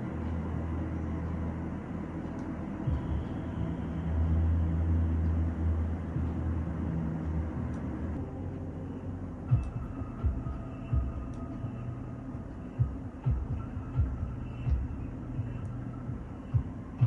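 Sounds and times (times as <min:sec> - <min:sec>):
low rumble through speakers: 0:00.0 - 0:17.0.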